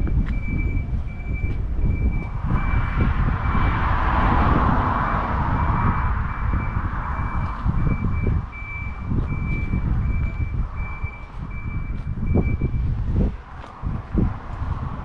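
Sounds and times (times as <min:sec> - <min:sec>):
vehicle reversing alarm beeping: 0:00.0 - 0:13.2
wind buffeting microphone: 0:00.0 - 0:15.0.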